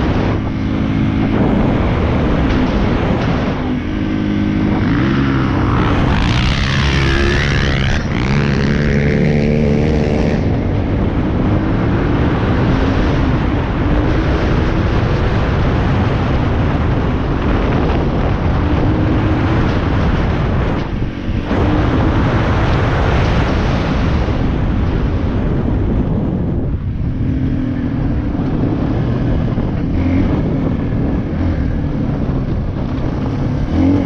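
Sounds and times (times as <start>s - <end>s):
dirt bike engine revving: 0.0s - 24.3s, 27.2s - 34.0s
steady rushing noise: 0.0s - 34.0s.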